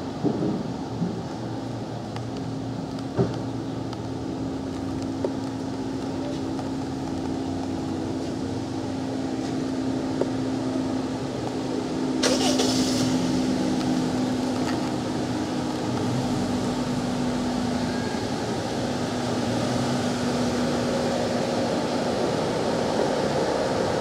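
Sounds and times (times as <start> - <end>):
street traffic: 0.0 - 24.0
vehicle engine humming: 0.0 - 24.0.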